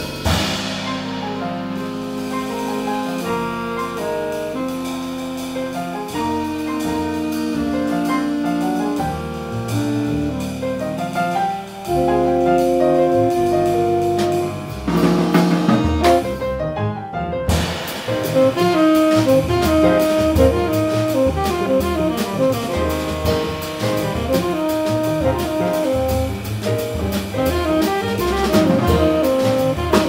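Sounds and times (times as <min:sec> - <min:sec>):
double bass: 0:00.0 - 0:30.0
grand piano comping: 0:00.0 - 0:30.0.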